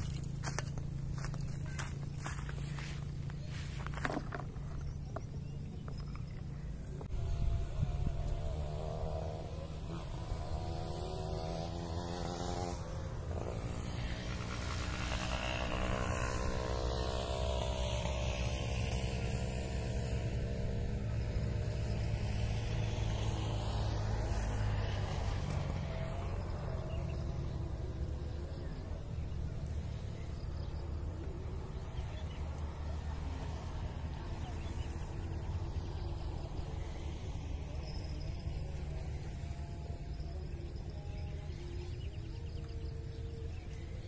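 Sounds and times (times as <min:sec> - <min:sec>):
engine rumble passing by: 0:00.0 - 0:44.0.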